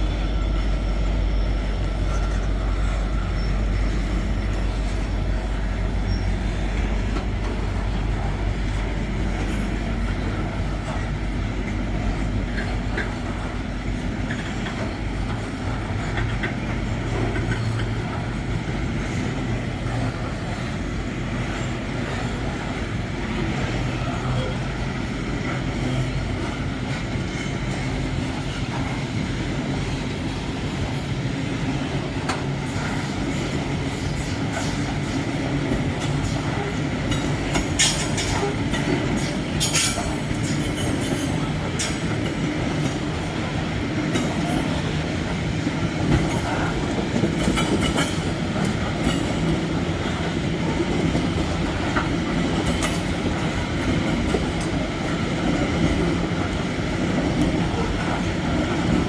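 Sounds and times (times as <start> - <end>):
train wagons rumbling on rails: 0.0 - 59.0.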